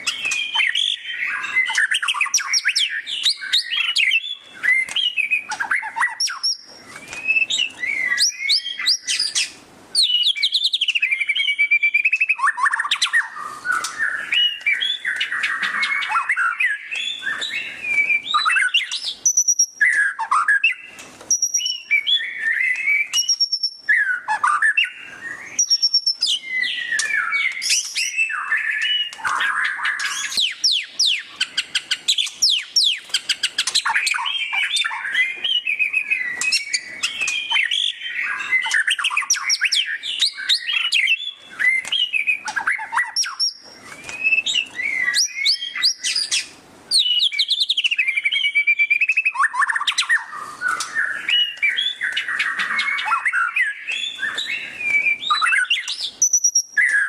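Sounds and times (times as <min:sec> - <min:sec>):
songbird singing fast varied song: 0:00.0 - 0:57.0.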